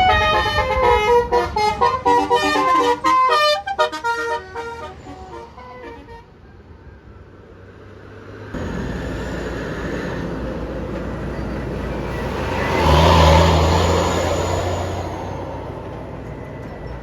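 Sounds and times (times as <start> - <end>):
bus driving past: 0.0 - 17.0.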